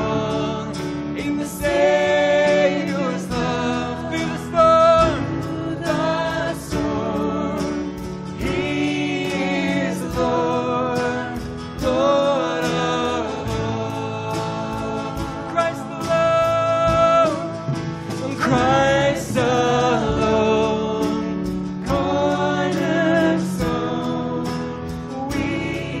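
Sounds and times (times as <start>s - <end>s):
group singing worship song: 0.0s - 26.0s.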